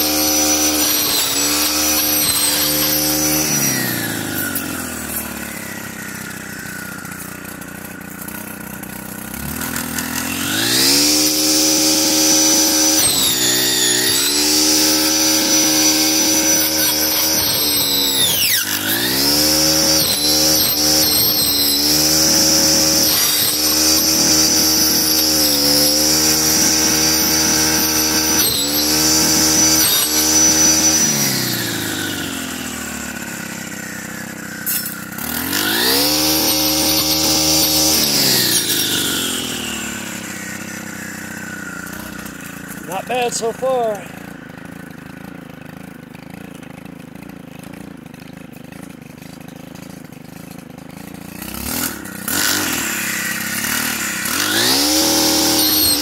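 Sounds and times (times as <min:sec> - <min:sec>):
brushcutter running: 0:00.0 - 0:56.0.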